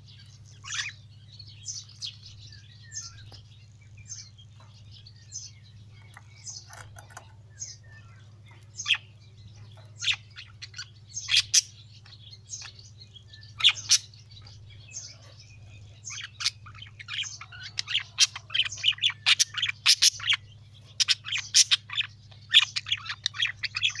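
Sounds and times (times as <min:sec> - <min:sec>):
birds chirping and chattering: 0:00.0 - 0:24.0.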